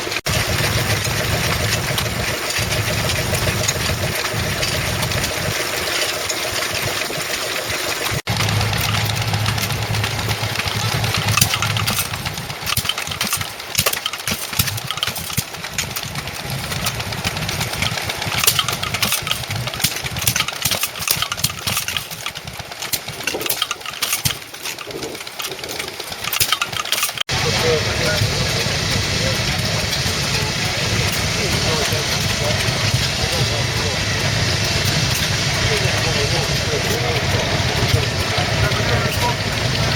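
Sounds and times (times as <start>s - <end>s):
old stationary engines running: 0.0s - 39.9s.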